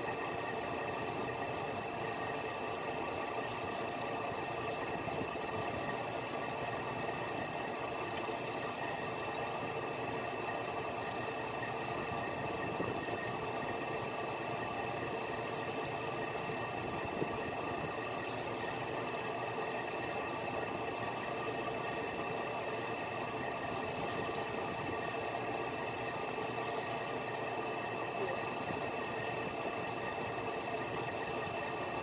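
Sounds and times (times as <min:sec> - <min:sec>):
boat engine running: 0:00.0 - 0:32.0
steady whine: 0:00.0 - 0:32.0.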